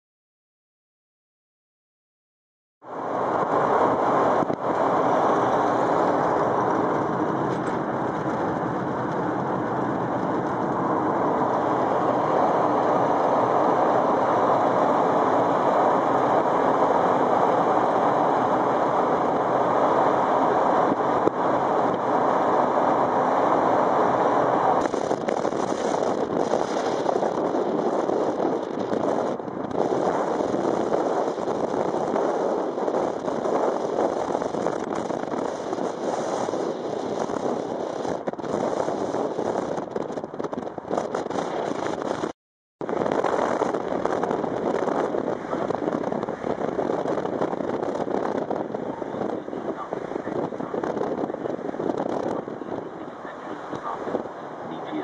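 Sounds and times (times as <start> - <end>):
vehicle road and wind noise: 2.8 - 55.0
wind buffeting microphone: 3.0 - 55.0.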